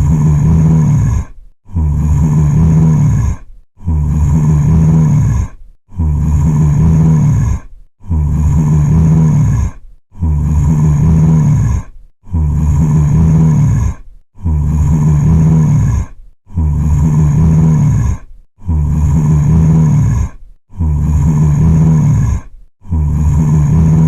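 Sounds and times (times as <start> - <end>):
zombie groan: 0.0 - 24.0.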